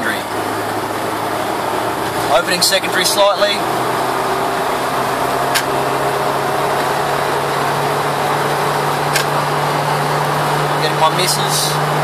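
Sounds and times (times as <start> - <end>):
engine revving under load and missing: 0.0 - 12.0.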